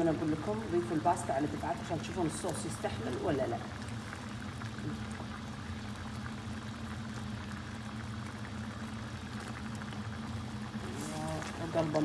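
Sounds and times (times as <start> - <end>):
sauce simmering and bubbling: 0.0 - 12.0.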